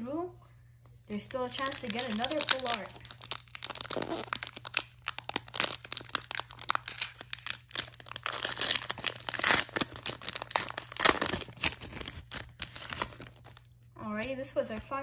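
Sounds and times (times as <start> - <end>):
foil wrapper crinkling and tearing: 1.2 - 13.8.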